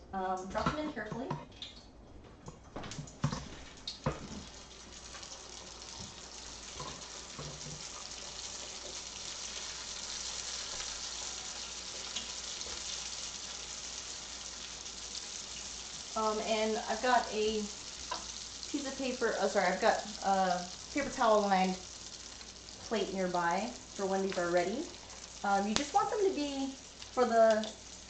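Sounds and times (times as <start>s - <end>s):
egg rolls deep-frying in oil: 2.8s - 28.0s.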